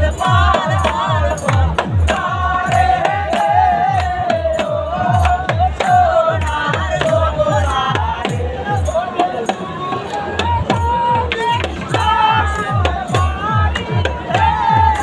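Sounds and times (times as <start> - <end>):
hand drum beat: 0.0 - 15.0
men singing folk melody: 0.0 - 15.0
hands clapping: 0.5 - 8.4, 9.4 - 15.0.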